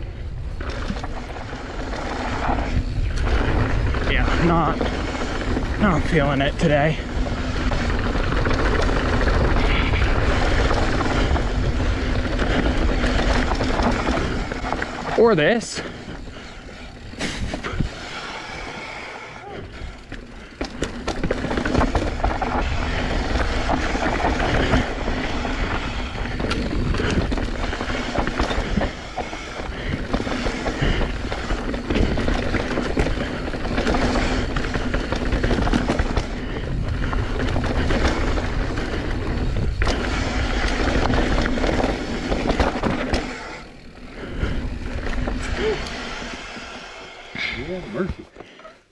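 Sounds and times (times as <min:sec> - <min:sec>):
bike knocking and rattling: 0:00.0 - 0:48.9
wind and tyre noise: 0:00.0 - 0:48.9.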